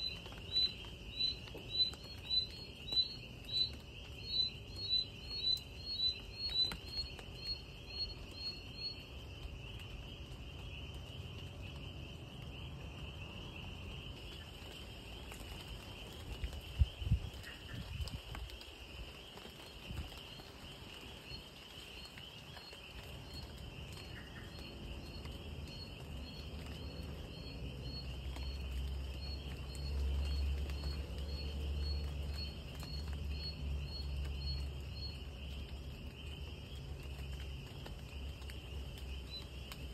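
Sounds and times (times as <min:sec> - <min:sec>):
crickets trilling: 0:00.0 - 0:39.9
insect chirp: 0:00.0 - 0:39.9.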